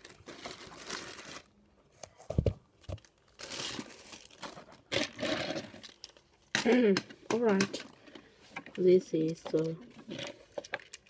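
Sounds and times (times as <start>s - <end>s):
plastic bags crinkling: 0.0s - 1.6s, 3.0s - 8.2s, 8.8s - 11.0s.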